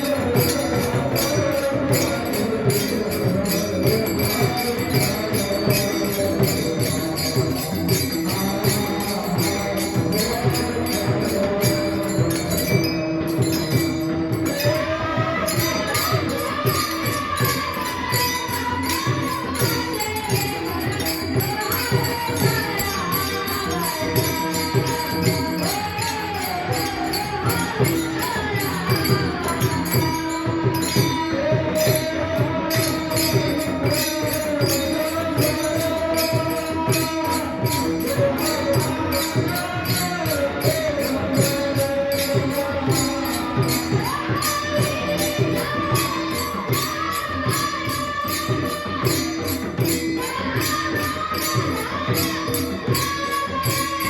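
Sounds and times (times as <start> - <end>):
drumbeats: 0.0 - 54.0
hand cymbals jingling: 0.0 - 54.0
person singing devotional melody: 0.0 - 54.0.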